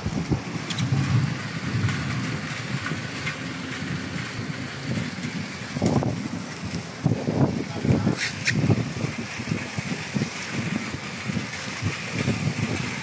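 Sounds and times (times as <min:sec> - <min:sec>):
low rumble on microphone: 0:00.0 - 0:13.0
water splashing over roof tiles: 0:00.0 - 0:13.0.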